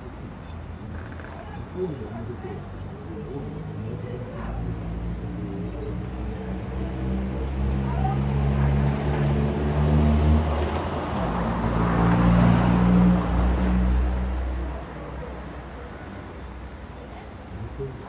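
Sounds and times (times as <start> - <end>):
tyre and engine noise: 0.0 - 18.0.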